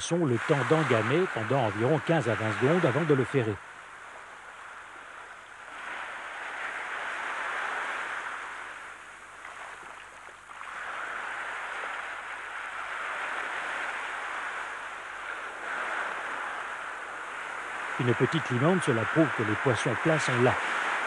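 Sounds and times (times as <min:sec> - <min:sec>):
sea surf on sandy beach: 0:00.0 - 0:21.0.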